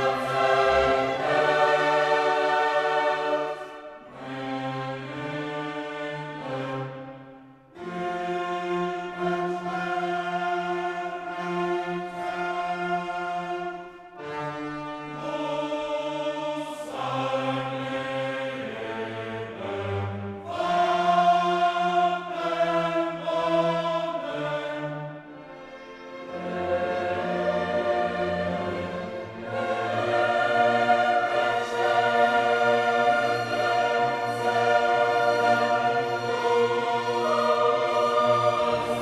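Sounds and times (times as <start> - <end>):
choir singing held notes: 0.0 - 7.1, 7.8 - 39.0
orchestra: 0.0 - 39.0.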